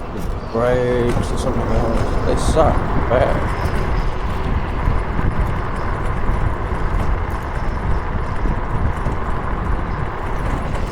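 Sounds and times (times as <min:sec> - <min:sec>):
wind and road noise: 0:00.0 - 0:10.9
wind buffeting microphone: 0:00.0 - 0:10.9.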